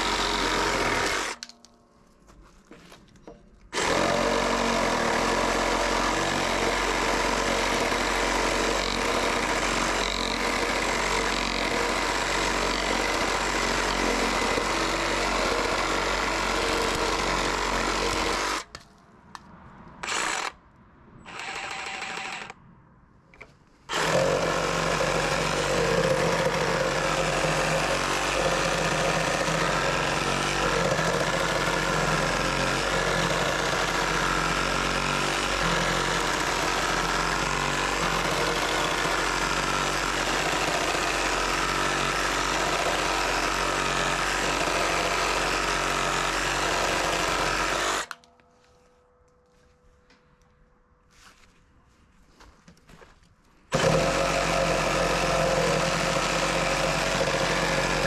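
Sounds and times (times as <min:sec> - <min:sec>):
reciprocating saw cutting wood: 0:00.0 - 0:01.4, 0:03.8 - 0:18.8, 0:20.0 - 0:20.6, 0:21.3 - 0:22.6, 0:23.9 - 0:48.2, 0:53.7 - 0:58.0.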